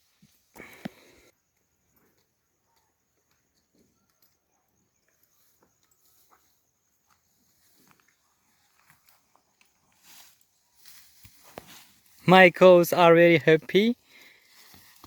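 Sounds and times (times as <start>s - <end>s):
faint ticks and rustles: 0.0s - 12.2s.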